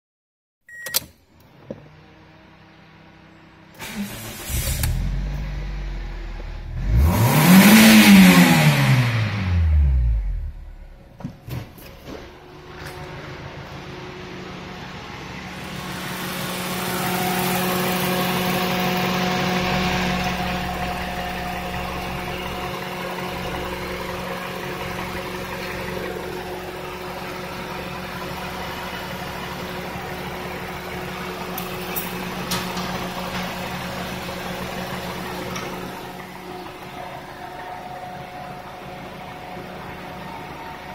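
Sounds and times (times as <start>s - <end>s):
car engine idling: 1.9s - 11.2s, 12.4s - 40.9s.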